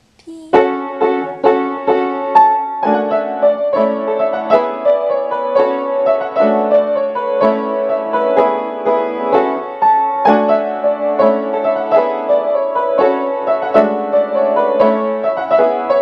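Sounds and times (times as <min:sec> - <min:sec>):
piano music: 0:00.5 - 0:16.0.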